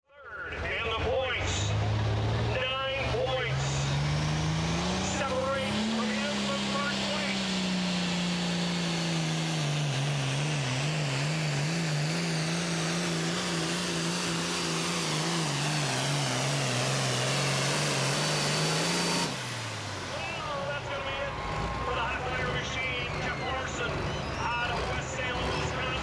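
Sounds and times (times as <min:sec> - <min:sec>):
tractor diesel engine under load: 0:00.2 - 0:26.0.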